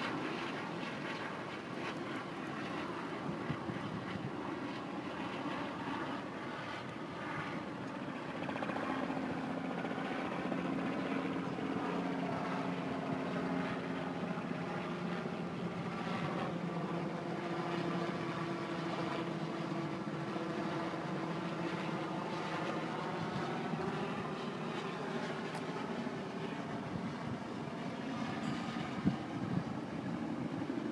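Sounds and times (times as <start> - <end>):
helicopter turbine and rotor drone: 0.0 - 30.9.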